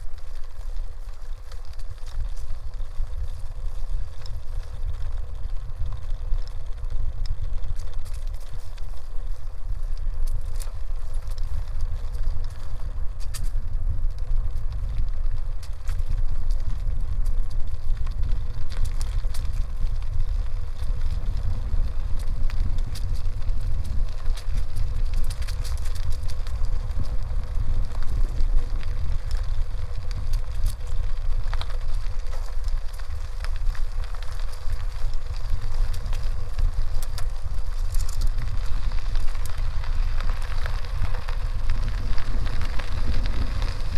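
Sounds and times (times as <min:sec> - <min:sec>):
tyres crackling on dirt road: 0:00.0 - 0:43.9
wind buffeting microphone: 0:00.0 - 0:43.9.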